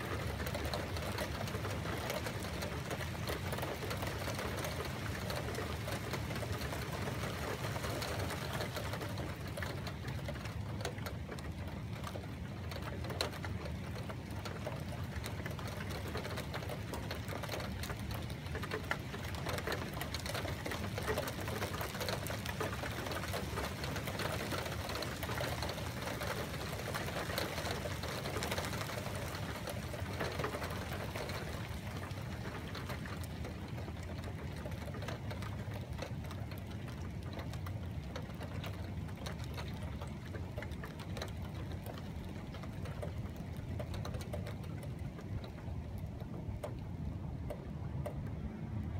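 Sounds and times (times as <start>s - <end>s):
faint clicks: 0.0s - 48.9s
steady rain pattering: 0.0s - 48.9s.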